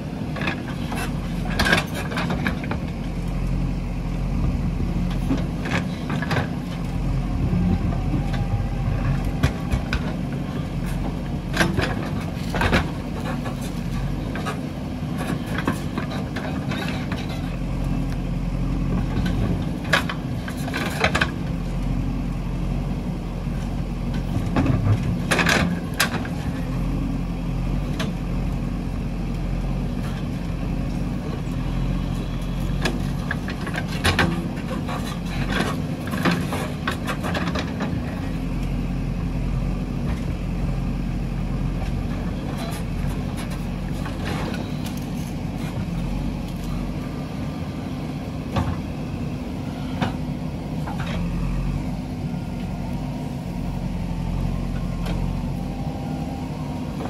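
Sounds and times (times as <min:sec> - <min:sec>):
backhoe diesel engine running: 0:00.0 - 0:57.0.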